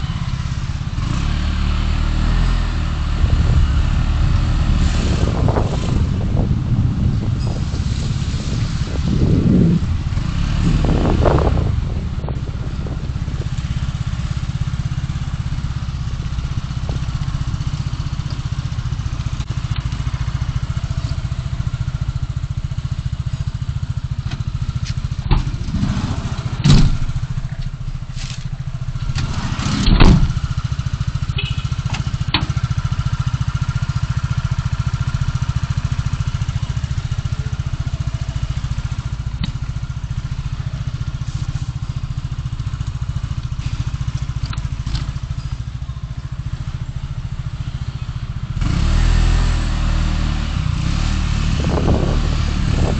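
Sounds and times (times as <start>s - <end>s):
car driving on road: 0.0s - 52.9s.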